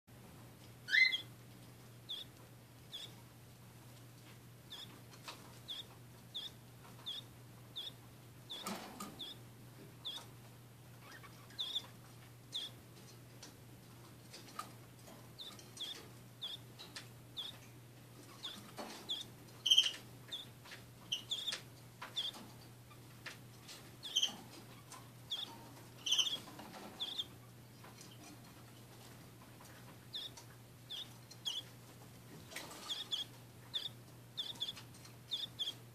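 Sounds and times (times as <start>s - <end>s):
low steady hum: 0.1s - 35.9s
faint ticks of chicks shifting: 0.2s - 35.9s
nestlings chirping: 0.8s - 35.9s.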